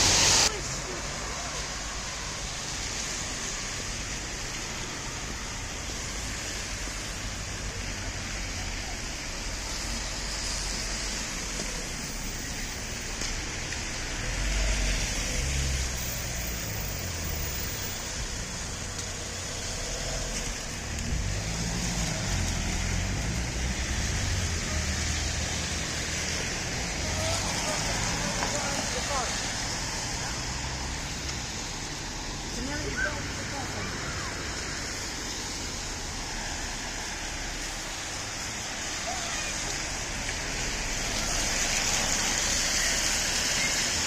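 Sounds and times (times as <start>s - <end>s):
rain and wet tyres hissing: 0.0s - 44.0s
vehicles passing rumble: 0.0s - 44.0s.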